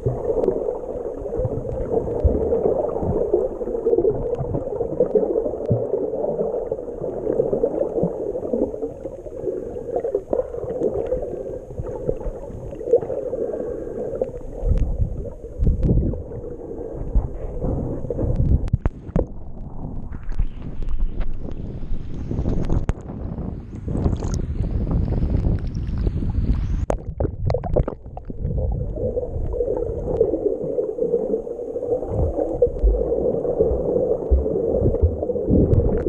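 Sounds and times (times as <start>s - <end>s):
water gurgling and churning: 0.0s - 21.1s, 26.8s - 36.0s.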